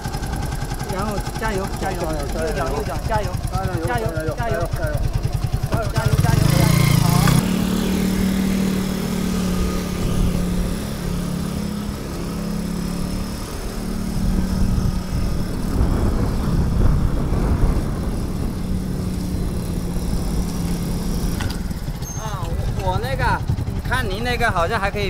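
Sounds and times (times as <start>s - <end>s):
go-kart engine running: 0.0s - 25.0s.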